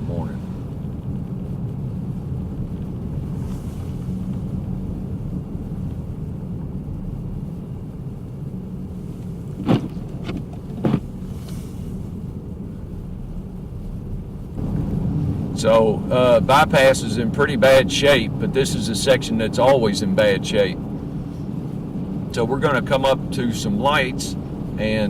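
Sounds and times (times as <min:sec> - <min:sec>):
road and engine rumble in car: 0:00.0 - 0:25.0.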